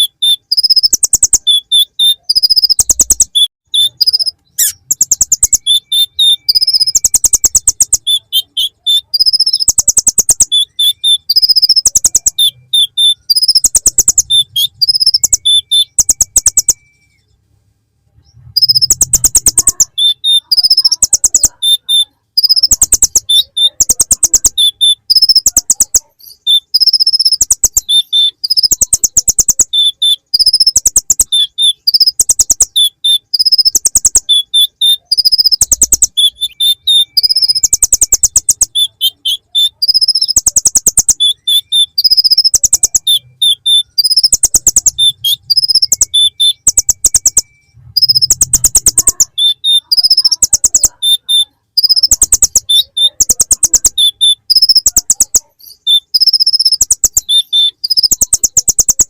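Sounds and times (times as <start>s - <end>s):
sunbird singing rapid trills: 0.0s - 17.1s, 18.6s - 59.0s.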